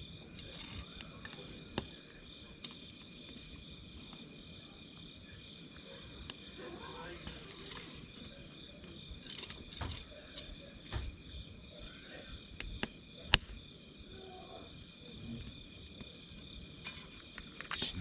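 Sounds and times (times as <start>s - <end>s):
campfire crackling and popping: 0.0s - 14.2s, 14.8s - 18.0s.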